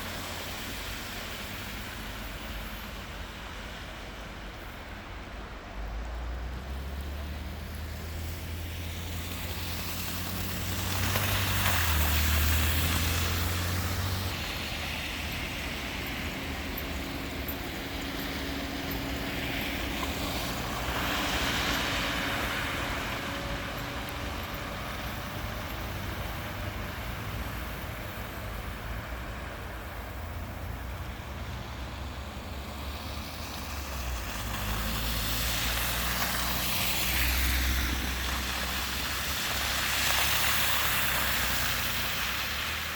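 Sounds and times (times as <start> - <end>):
traffic rumble: 0.0 - 42.9
vehicles passing by: 0.0 - 42.9.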